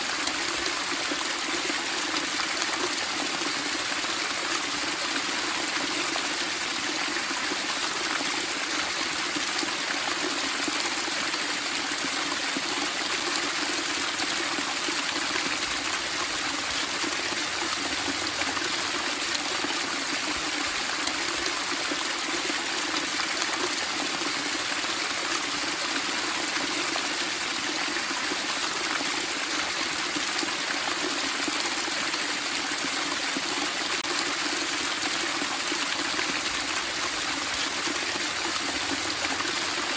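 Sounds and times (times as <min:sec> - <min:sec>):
water babbling and splashing: 0:00.0 - 0:39.9.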